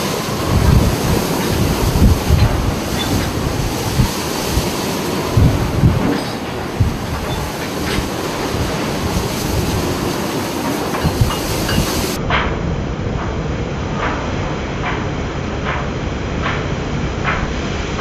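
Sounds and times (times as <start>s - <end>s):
low buffeting: 0.0s - 18.0s
storm wind roaring: 0.0s - 18.0s
waves breaking: 0.0s - 18.0s.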